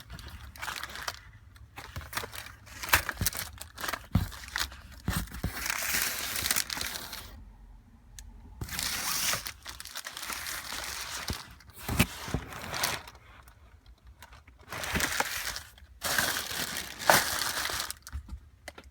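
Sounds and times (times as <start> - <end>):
plastic packaging crinkling: 0.0 - 7.4, 8.6 - 18.9.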